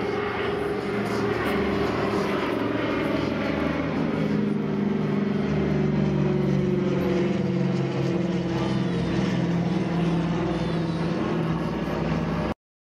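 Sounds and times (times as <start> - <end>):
propeller plane droning overhead: 0.0 - 12.6.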